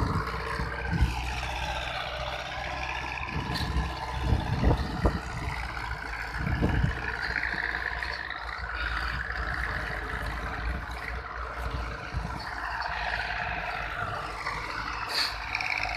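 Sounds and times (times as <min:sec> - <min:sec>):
tractor engine running under load: 0:00.0 - 0:15.9.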